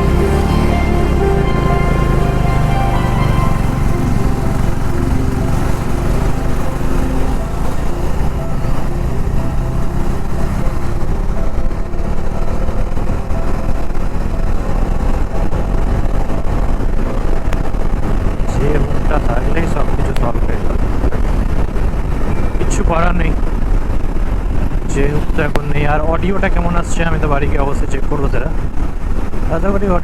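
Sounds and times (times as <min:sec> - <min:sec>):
motorcycle engine running: 0:00.0 - 0:27.4
road noise: 0:00.0 - 0:30.0.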